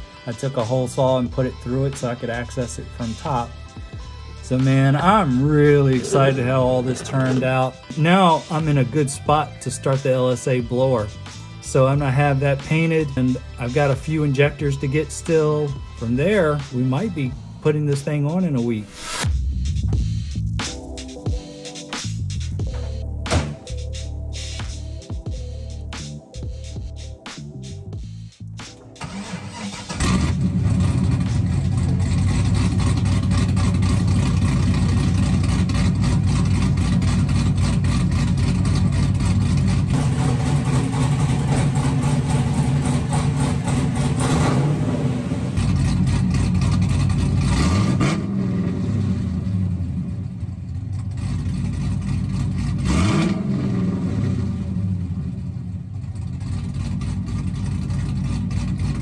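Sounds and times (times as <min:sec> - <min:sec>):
car engine starting and idling: 0:00.0 - 0:21.2, 0:22.0 - 0:59.0
engine revving: 0:00.4 - 0:18.0, 0:22.0 - 0:59.0.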